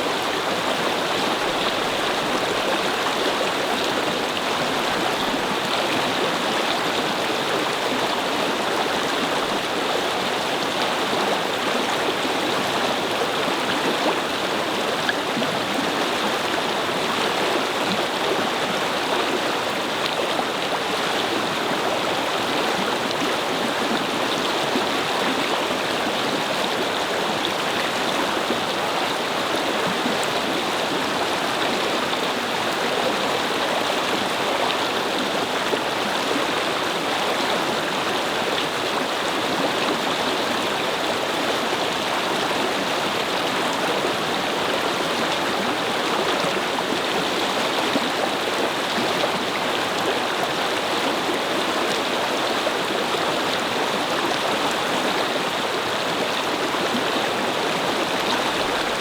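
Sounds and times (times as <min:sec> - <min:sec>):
brook babbling over stones: 0:00.0 - 0:59.0.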